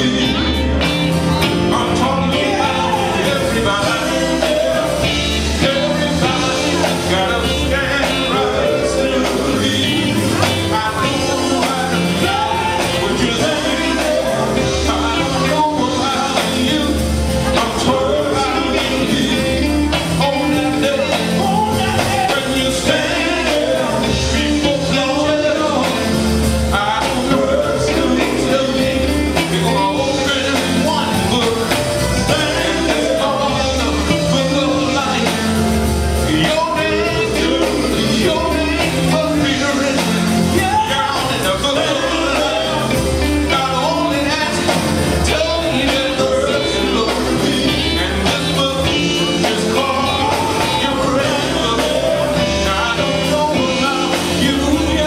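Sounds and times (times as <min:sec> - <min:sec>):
gospel band playing: 0:00.0 - 0:55.0
male vocal group singing: 0:00.0 - 0:55.0.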